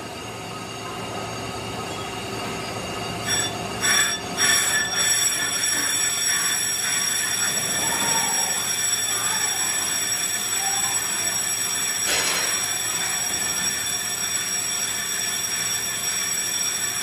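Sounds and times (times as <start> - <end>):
brake lathe high-pitched whine: 0.0 - 17.0.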